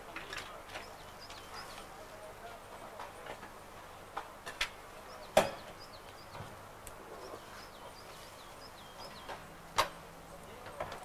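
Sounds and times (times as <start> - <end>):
small birds chirping: 0.1 - 3.2, 3.8 - 11.0.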